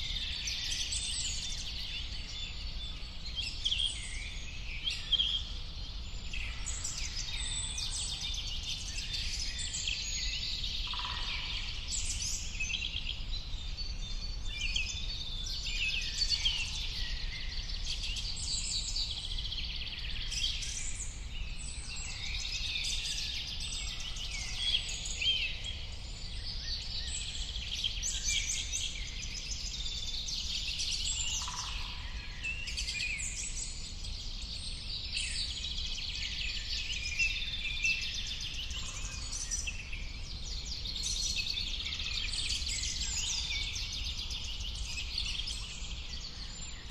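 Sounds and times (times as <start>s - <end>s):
birds singing and chirping: 0.0s - 46.9s.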